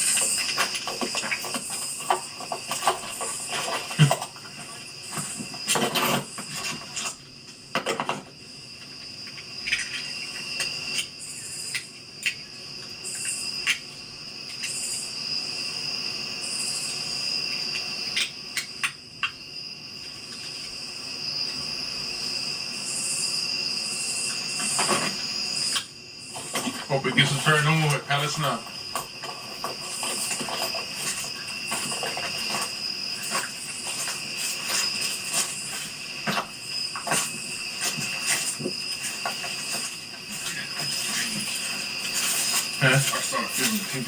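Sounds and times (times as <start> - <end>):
crickets chirring: 0.0 - 44.0.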